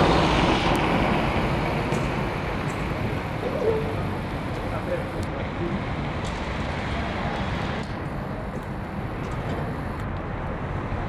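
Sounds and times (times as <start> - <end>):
fire rushing: 0.0 - 11.0.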